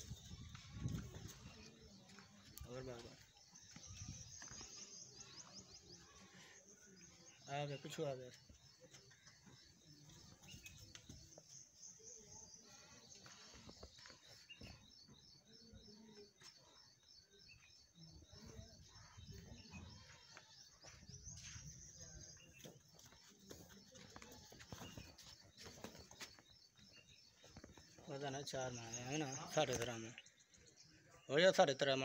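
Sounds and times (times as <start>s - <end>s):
faint bird chirping: 0.0s - 32.0s.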